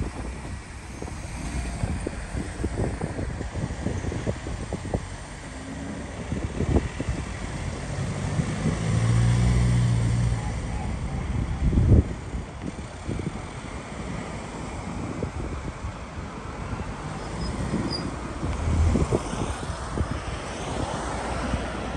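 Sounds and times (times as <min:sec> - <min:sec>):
street traffic: 0:00.0 - 0:21.9
wind buffeting microphone: 0:00.0 - 0:21.9.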